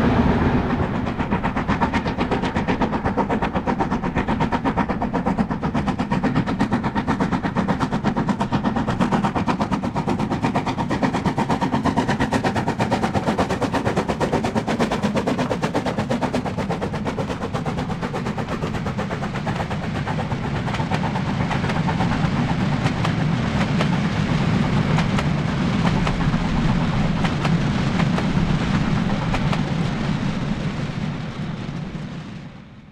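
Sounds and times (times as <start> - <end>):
steam locomotive chuffing: 0.0 - 32.8
low rumble: 0.0 - 32.9.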